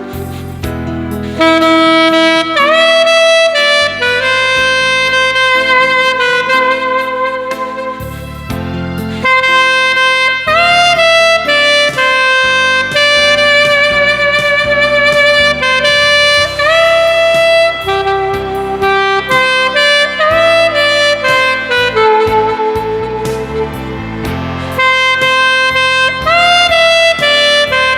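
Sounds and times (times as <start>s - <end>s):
alto saxophone melody: 0.0s - 27.9s
backing track: 0.0s - 27.9s.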